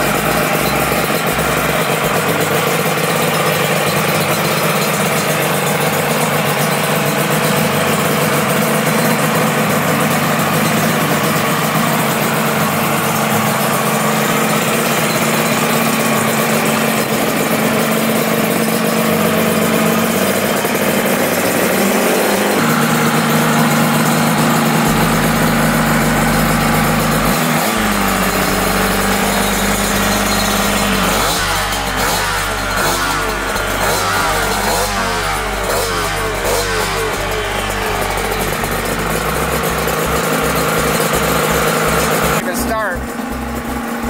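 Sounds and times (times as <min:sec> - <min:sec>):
engine revving: 0:00.0 - 0:44.0
two-stroke engine idling: 0:00.0 - 0:44.0.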